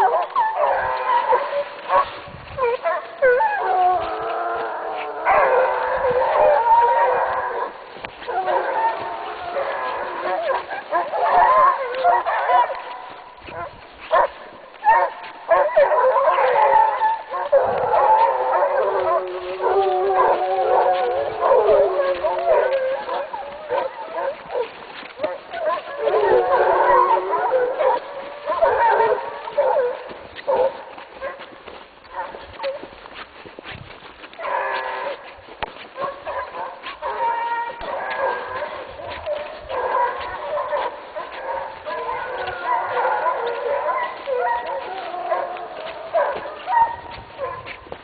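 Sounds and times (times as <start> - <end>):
hounds baying: 0.0 - 48.0.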